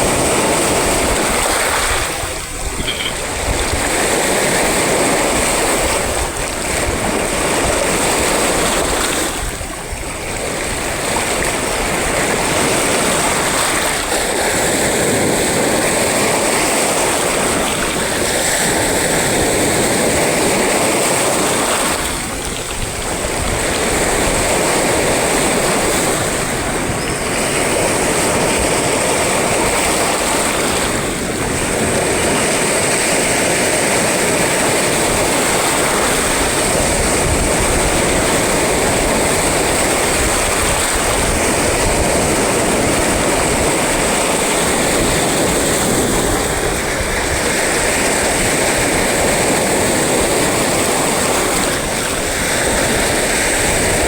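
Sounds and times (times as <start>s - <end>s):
sea surf waves breaking: 0.0s - 54.0s.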